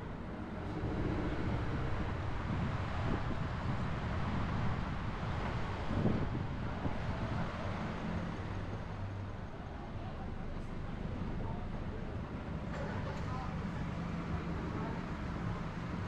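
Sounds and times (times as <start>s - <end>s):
car engine rumble: 0.0s - 16.0s
road noise: 0.0s - 16.0s.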